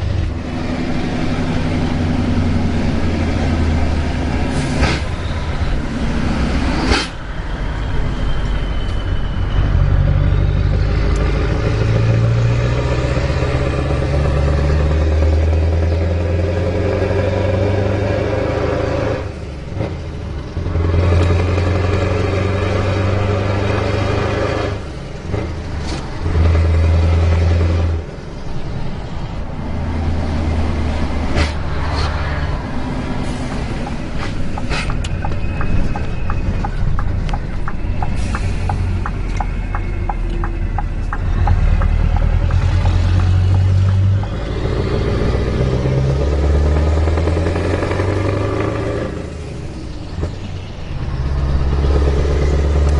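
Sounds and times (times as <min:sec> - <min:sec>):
diesel truck engine under load: 0:00.0 - 0:52.9.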